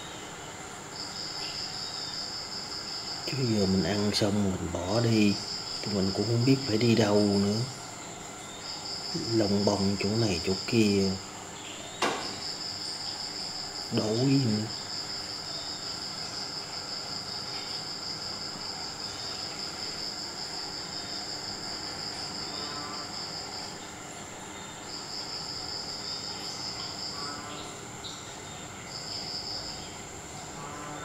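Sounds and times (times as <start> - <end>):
crickets trilling: 0.0 - 31.0
faint high chirring: 0.0 - 31.0.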